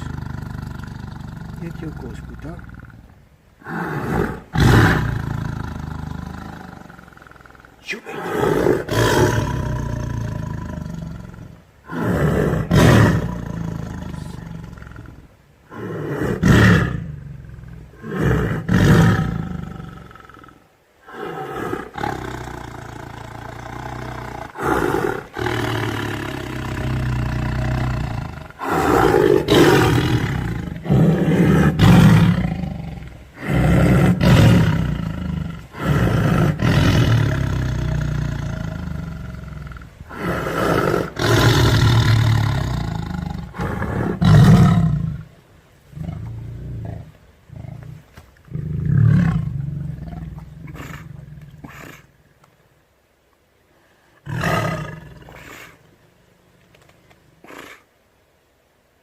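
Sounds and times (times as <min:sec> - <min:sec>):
tiger growling: 0:00.0 - 0:52.2, 0:54.2 - 0:57.9.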